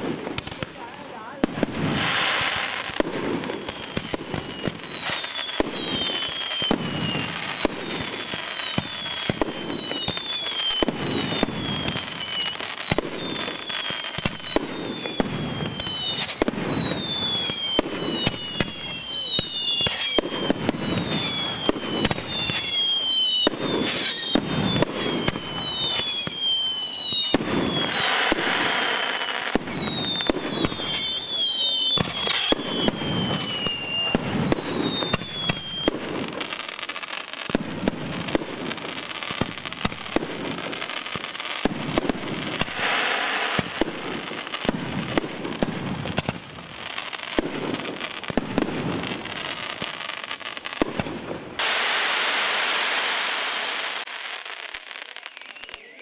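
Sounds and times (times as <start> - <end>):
firework bangs and crackling: 0.0 - 56.0
firework whistles: 0.0 - 56.0.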